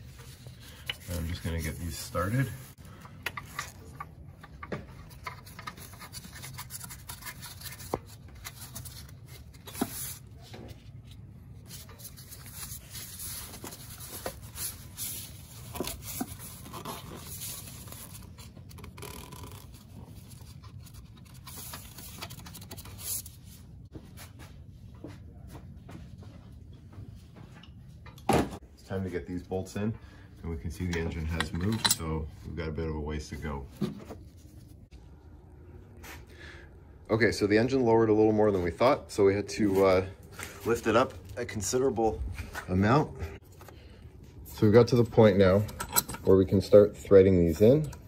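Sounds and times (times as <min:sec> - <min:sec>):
rubbing and scraping handling noise: 0:00.0 - 0:25.3, 0:30.6 - 0:35.0, 0:38.4 - 0:48.0.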